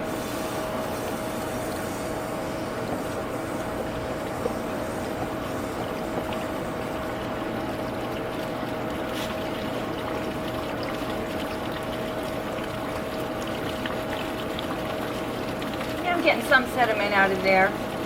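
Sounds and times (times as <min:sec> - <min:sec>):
water running from drain: 0:00.0 - 0:18.0.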